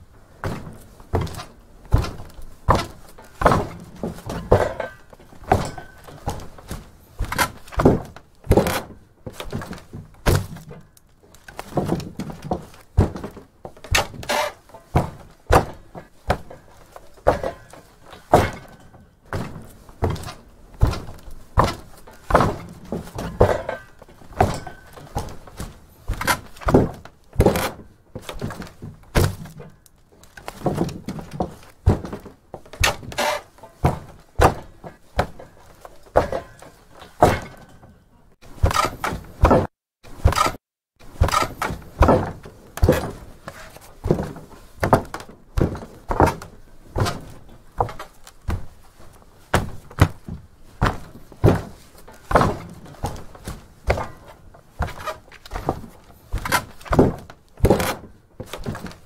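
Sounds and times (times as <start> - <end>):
footsteps on wooden floor: 0.4 - 37.0, 38.6 - 59.0.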